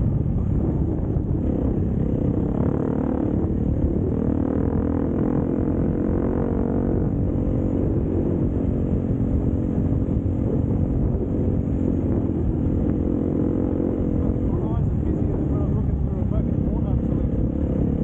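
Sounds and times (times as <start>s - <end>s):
dirt bike engine running: 0.0s - 18.0s
wind buffeting microphone: 0.0s - 18.0s.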